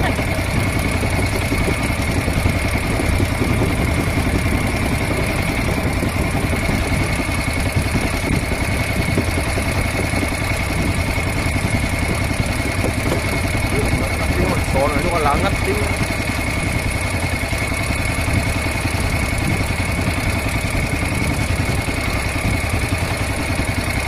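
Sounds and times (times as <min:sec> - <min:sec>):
boat engine rumbling with whine: 0:00.0 - 0:24.0.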